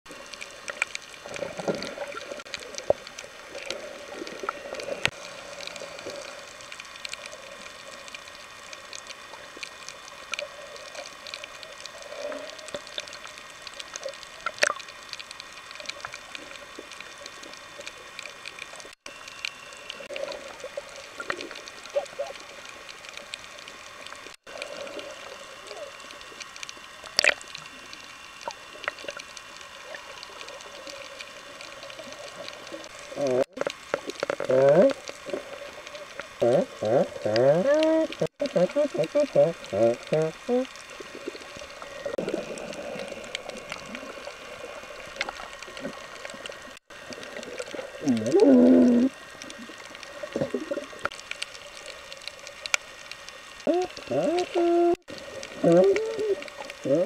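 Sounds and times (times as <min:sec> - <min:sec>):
muffled underwater water movement: 0:00.1 - 0:57.0
sharp clicks and crackles: 0:00.1 - 0:57.0.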